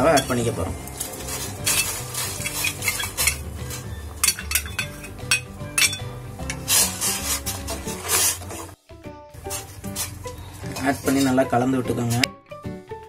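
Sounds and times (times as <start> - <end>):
spoon scraping a steel bowl: 0.1 - 8.8, 9.4 - 11.3.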